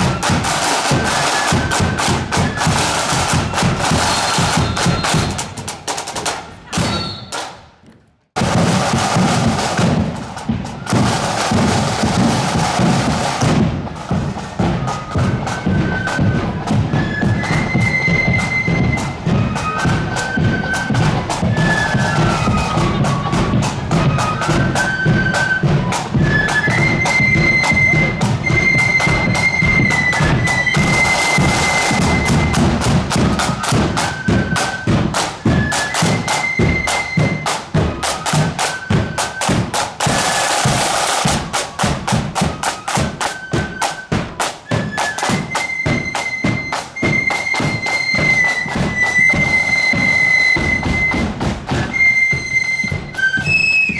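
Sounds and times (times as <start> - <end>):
flute melody: 0.0 - 5.7, 6.7 - 7.5, 10.7 - 53.9
snare drumming: 0.0 - 7.8, 8.4 - 53.9.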